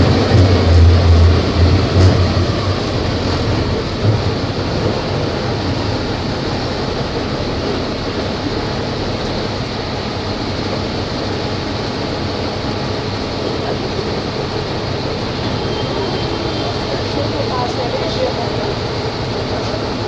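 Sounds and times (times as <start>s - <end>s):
bus engine running steadily: 0.0s - 20.0s.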